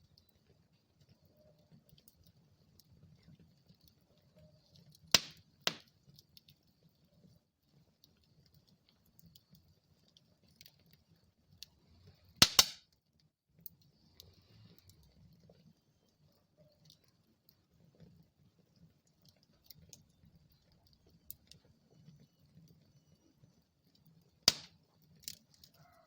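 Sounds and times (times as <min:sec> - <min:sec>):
burning wood popping: 0:00.0 - 0:26.0
wood fire crackling: 0:00.0 - 0:26.0.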